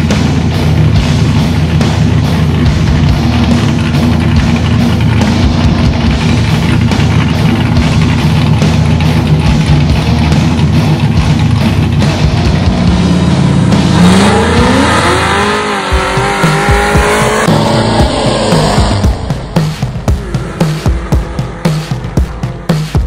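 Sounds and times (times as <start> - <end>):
car engine revving and accelerating: 0.0 - 23.0
loud background music: 0.0 - 23.0.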